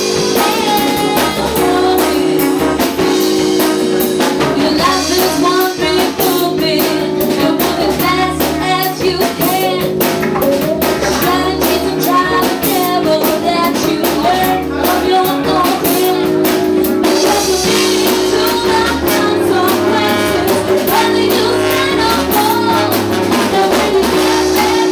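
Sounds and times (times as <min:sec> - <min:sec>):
drum kit beat: 0:00.0 - 0:24.9
electric guitar: 0:00.0 - 0:24.9
person singing: 0:00.0 - 0:24.9.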